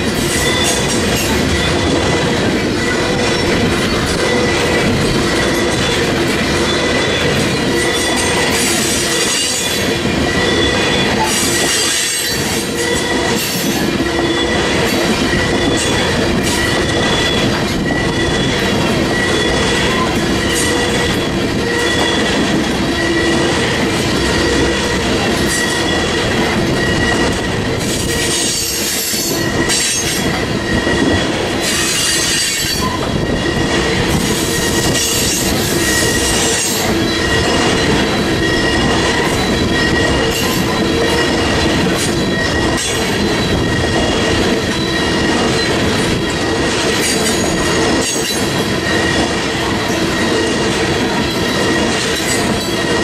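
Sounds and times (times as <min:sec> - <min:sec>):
high ringing wheel squeal: 0:00.0 - 0:01.9, 0:02.8 - 0:50.6.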